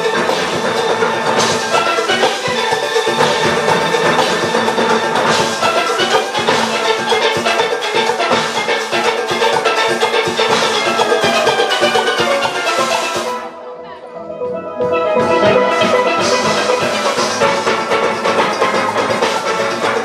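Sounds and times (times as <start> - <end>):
driving percussion beat: 0.0 - 13.4, 14.9 - 20.0
steel orchestra playing: 0.0 - 20.0.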